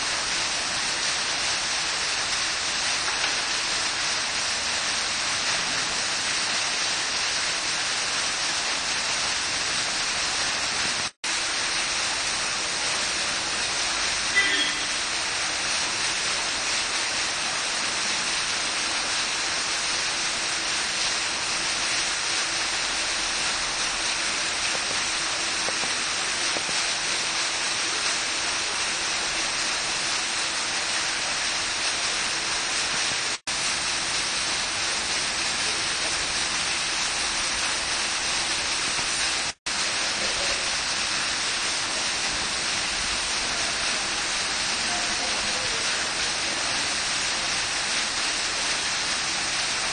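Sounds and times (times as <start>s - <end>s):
fountain water splashing into pool: 0.0s - 49.9s.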